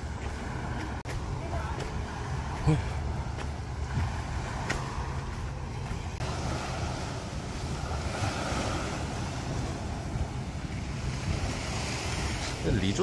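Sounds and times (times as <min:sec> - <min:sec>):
sea surf washing onto beach: 0:00.0 - 0:13.0
wind buffeting microphone: 0:00.0 - 0:13.0.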